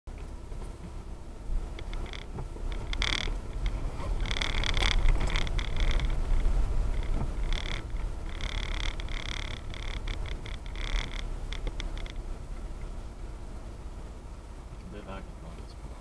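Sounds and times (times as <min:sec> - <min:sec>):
car rumbling over dirt: 0:00.1 - 0:16.0.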